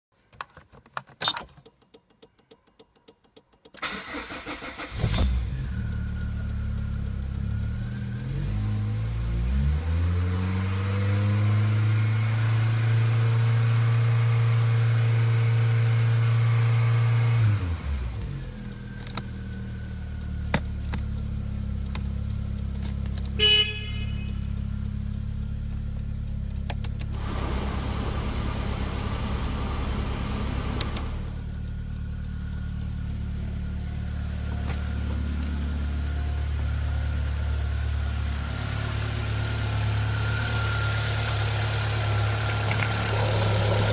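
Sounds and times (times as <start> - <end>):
car engine revving and idling: 3.8 - 43.9.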